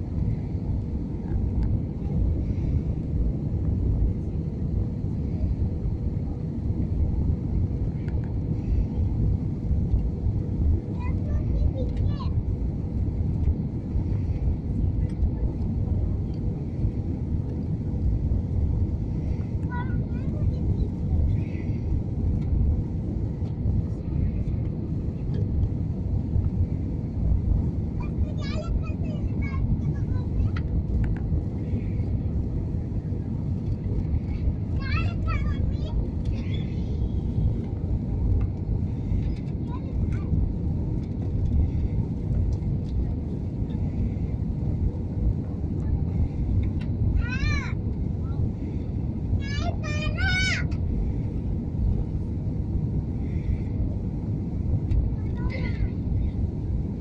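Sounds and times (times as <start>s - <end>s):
faint passenger voices: 0.0s - 57.0s
faint steady hum: 0.0s - 57.0s
jet engines and airflow rumble: 0.0s - 57.0s.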